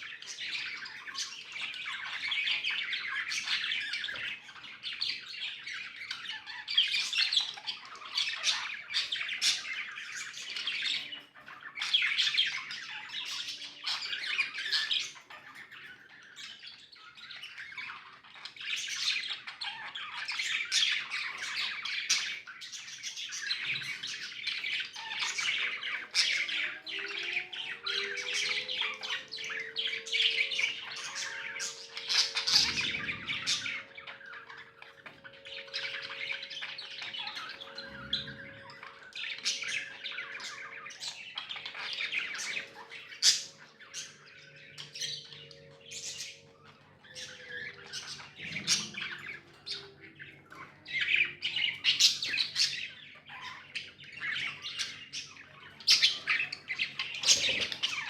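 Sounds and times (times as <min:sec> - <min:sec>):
budgies chirping and chattering: 0:00.0 - 0:58.0.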